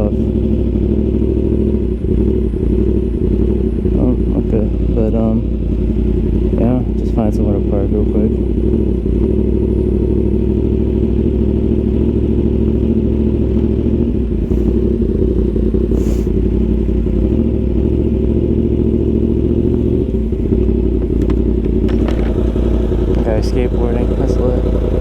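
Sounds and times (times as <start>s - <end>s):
motorcycle engine running at low revs: 0.0s - 25.0s.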